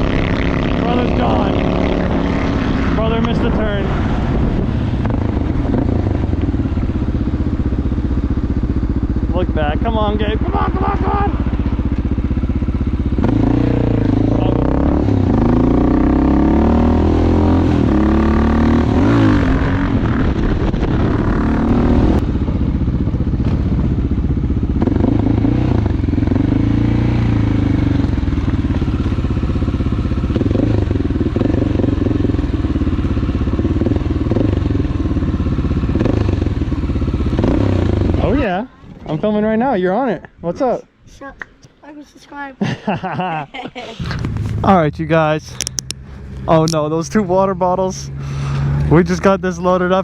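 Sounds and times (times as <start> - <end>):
motorcycle engine revving: 0.0 - 40.8, 44.0 - 50.0.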